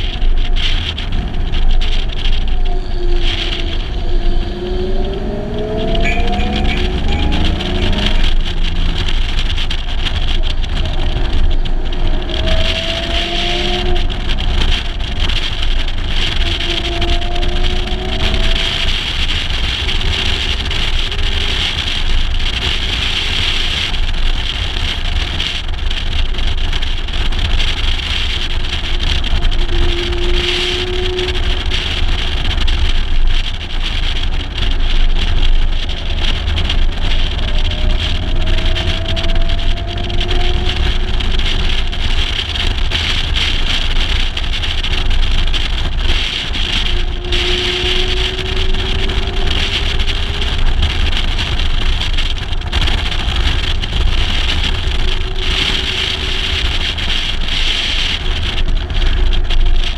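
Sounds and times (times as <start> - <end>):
car engine accelerating: 0.0 - 59.9
wind noise on microphone: 0.0 - 59.9.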